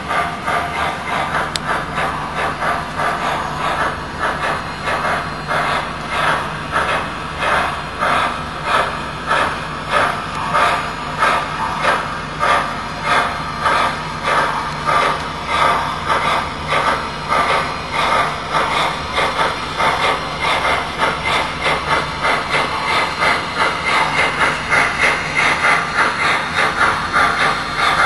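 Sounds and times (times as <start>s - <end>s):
model steam locomotive chuffs: 0.0s - 28.0s
steady low hum: 0.0s - 28.0s.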